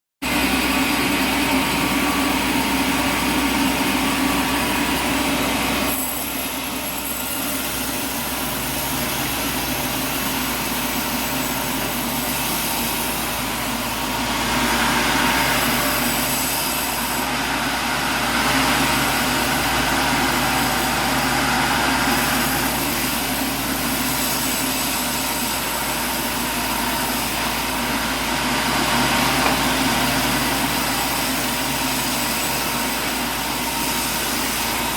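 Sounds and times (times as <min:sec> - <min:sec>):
sawmill machinery drone: 0:00.2 - 0:34.9.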